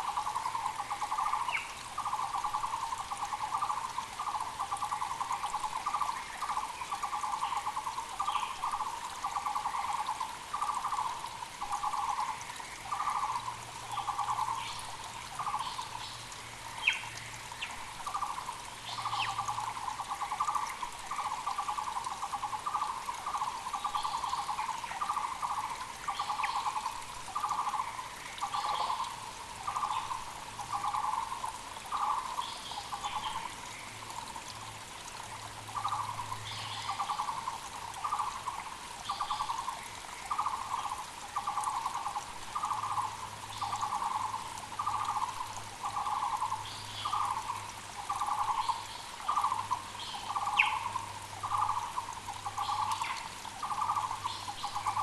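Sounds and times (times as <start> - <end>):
mountain creek running: 0.0 - 55.0.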